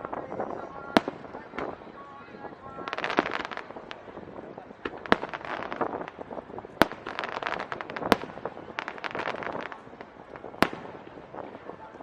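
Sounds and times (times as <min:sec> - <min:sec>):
firework bangs: 0:00.0 - 0:12.0
rapid crackling firework pops: 0:00.0 - 0:12.0.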